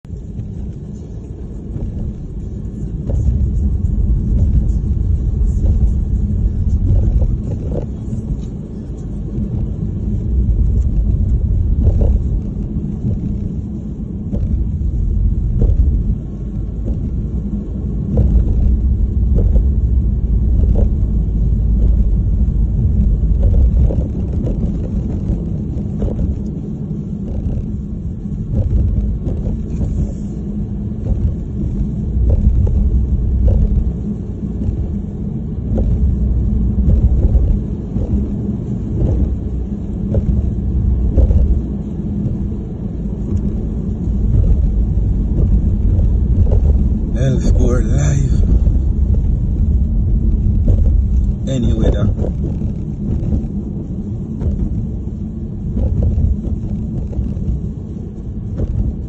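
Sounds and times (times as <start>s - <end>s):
wind buffeting microphone: 9.2s - 59.0s.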